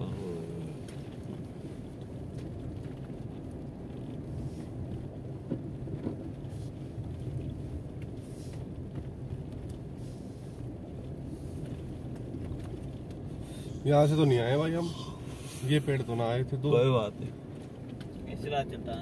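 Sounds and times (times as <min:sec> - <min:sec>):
car engine rumble inside cabin: 0:00.0 - 0:19.0.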